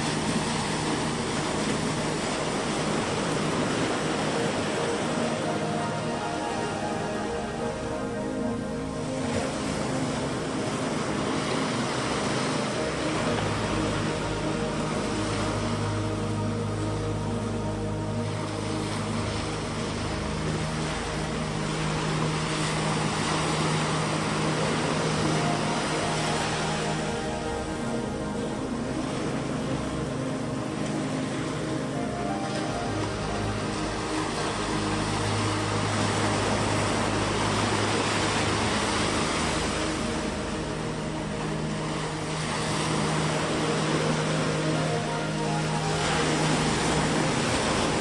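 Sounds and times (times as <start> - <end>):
boat engine running: 0.0 - 48.0
rushing water: 0.0 - 48.0
wind: 0.0 - 48.0.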